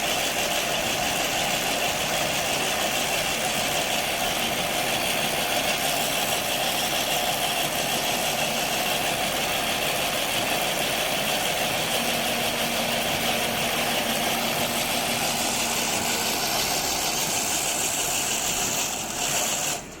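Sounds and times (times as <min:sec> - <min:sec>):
harvesting machine engine running: 0:00.0 - 0:20.0.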